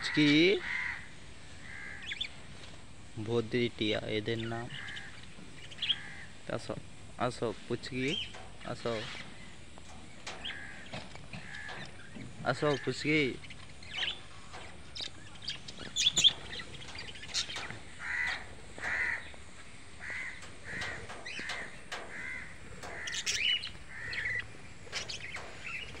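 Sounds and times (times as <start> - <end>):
budgerigars calling: 0.0 - 2.4, 4.3 - 6.4, 7.9 - 26.0.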